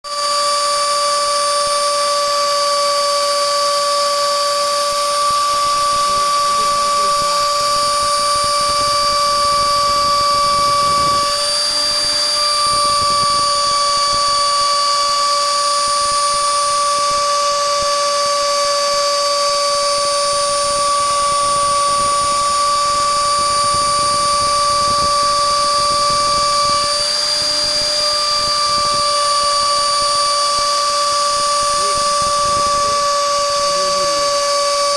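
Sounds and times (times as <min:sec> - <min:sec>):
router spindle whining: 0:00.0 - 0:34.9.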